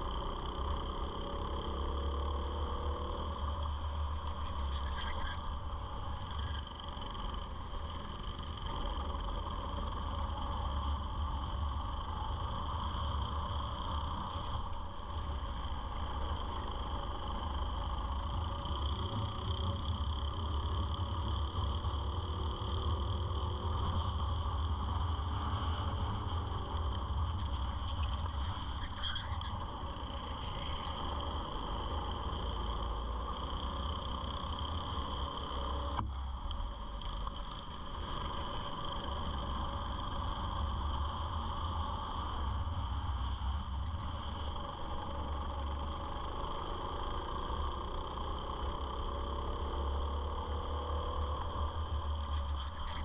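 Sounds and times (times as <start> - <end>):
go-kart engine racing: 0.0 - 53.0.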